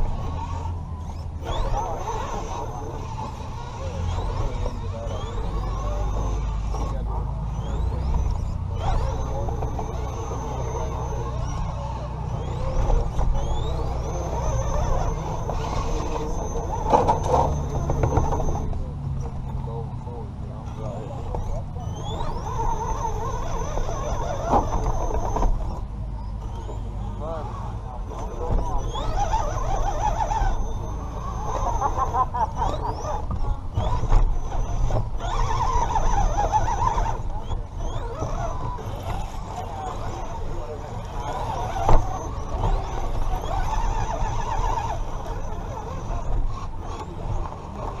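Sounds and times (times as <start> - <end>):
electric motor whining: 0.0 - 48.0
low chassis rumble: 0.0 - 48.0.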